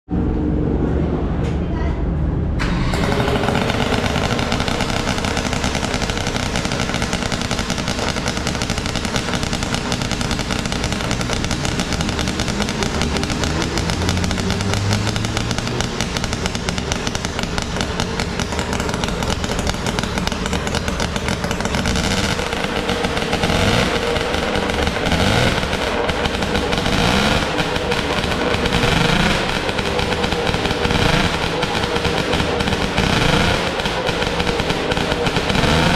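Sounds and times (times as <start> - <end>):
race car engine revving: 2.4 - 35.9.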